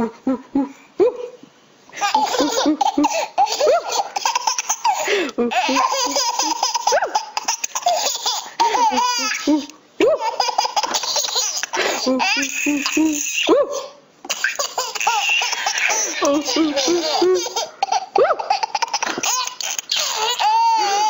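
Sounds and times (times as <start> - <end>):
babies laughing and squealing: 2.0 - 21.0.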